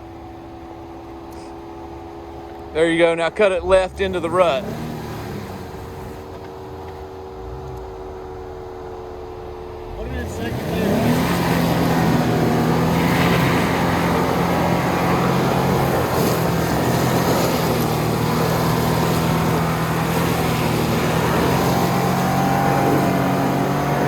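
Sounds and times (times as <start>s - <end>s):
off-road vehicle engine: 0.0s - 24.0s.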